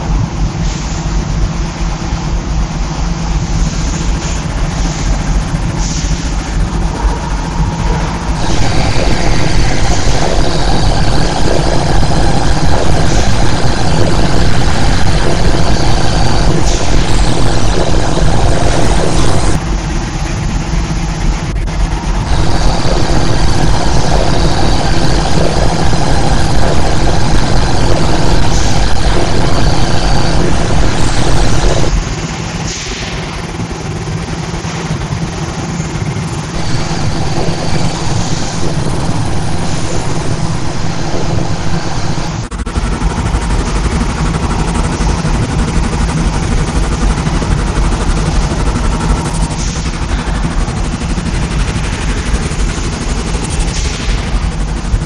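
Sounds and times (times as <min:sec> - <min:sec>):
industrial machine rumble: 0:00.0 - 0:55.0.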